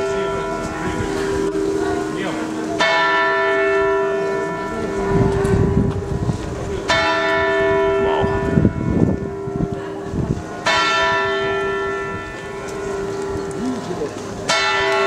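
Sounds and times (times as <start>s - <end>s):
clock tower bell tolling: 0.0s - 13.6s, 14.4s - 15.0s.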